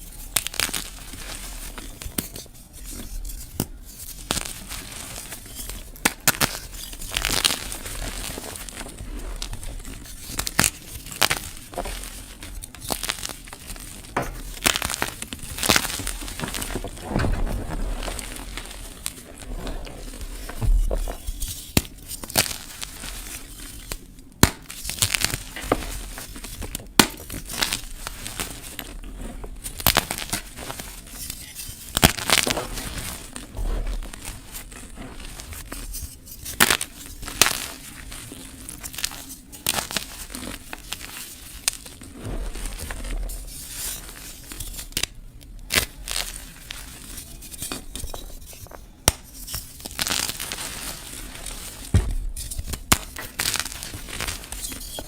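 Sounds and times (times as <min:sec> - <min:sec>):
chalk and petals crunching: 0:00.0 - 0:55.0.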